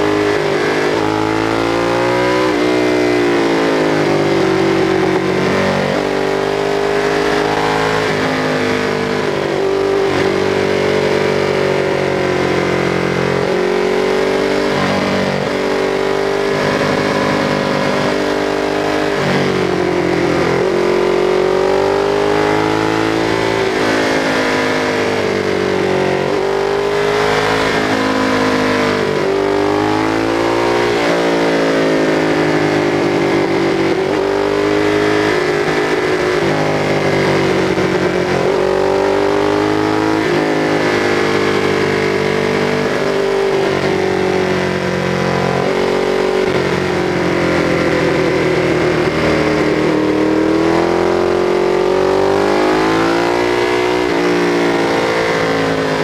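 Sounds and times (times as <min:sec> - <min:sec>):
motorcycle engine pulling at speed: 0:00.0 - 0:56.0.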